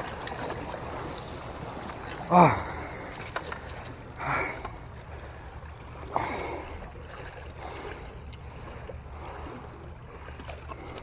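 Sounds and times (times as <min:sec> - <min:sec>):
sea water washing against rocks: 0:00.0 - 0:11.0.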